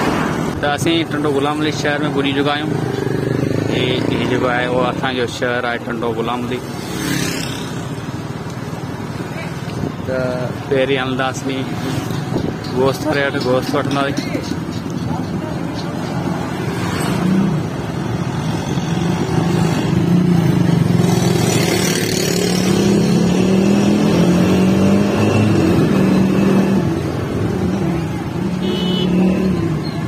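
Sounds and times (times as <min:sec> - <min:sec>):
wind and road noise: 0:00.0 - 0:30.0.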